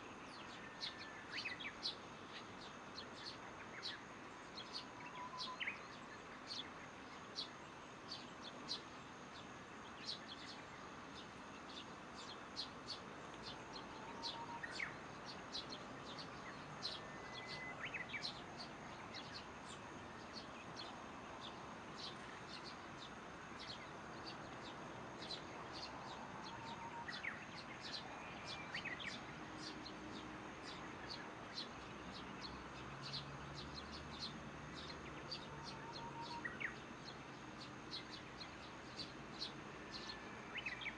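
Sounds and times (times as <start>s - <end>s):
faint hiss of insects: 0.0s - 40.9s
lower sweeping bird calls: 0.0s - 40.9s
small birds chirping: 0.0s - 40.9s.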